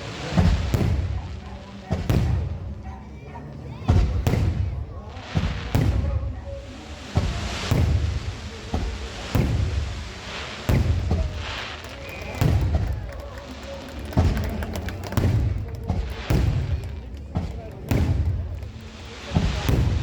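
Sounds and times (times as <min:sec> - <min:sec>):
firework bangs: 0:00.0 - 0:03.0, 0:03.7 - 0:20.0.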